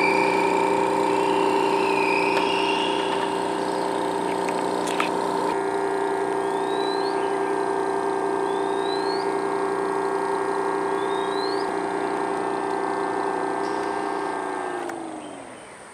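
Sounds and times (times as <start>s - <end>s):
portable generator running: 0.0s - 15.9s.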